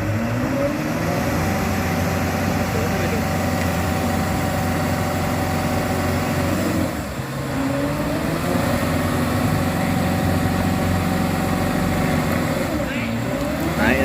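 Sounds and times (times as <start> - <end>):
diesel truck engine pulling hard: 0.0 - 14.0.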